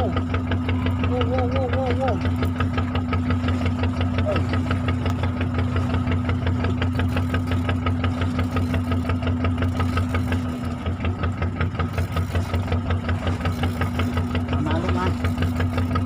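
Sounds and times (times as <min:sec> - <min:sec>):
boat engine knocking hum: 0:00.0 - 0:16.0.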